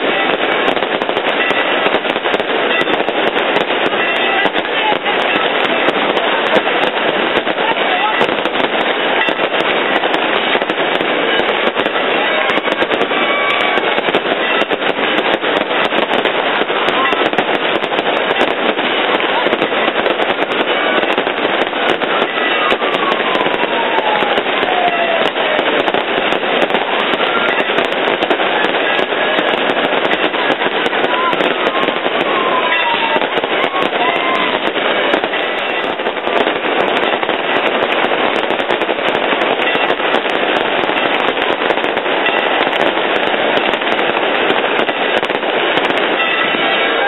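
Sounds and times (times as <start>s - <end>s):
crowd voices: 0.0s - 47.0s
firecrackers popping rapidly: 0.0s - 47.0s.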